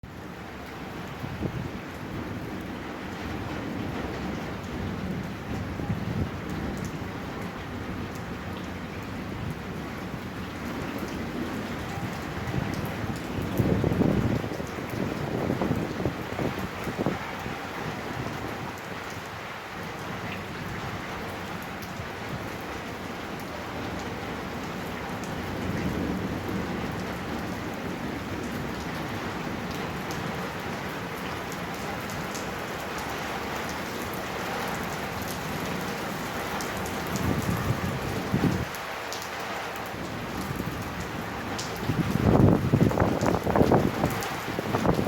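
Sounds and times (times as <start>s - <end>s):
heavy rain with hail: 0.0s - 45.0s.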